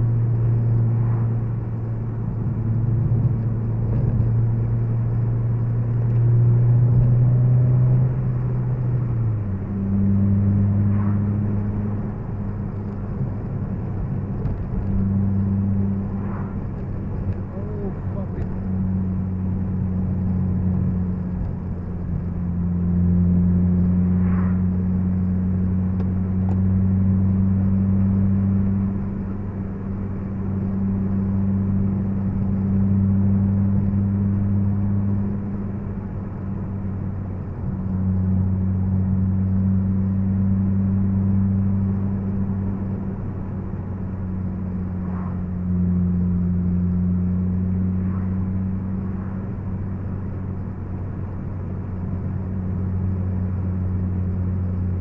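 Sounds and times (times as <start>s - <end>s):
car engine droning: 0.0s - 55.0s
tyre and road noise: 0.0s - 55.0s.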